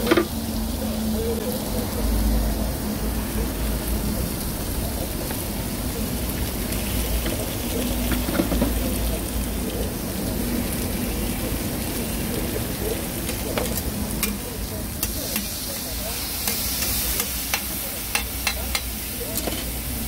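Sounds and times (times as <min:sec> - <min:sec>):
food sizzling on griddle: 0:00.0 - 0:20.0.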